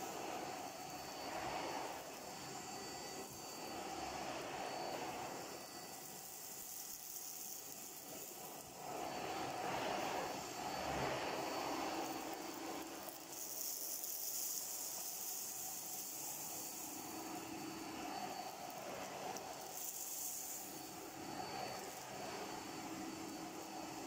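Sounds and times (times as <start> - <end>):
vacuum cleaner running: 0.0 - 24.0
vacuum nozzle on carpet: 0.0 - 24.0.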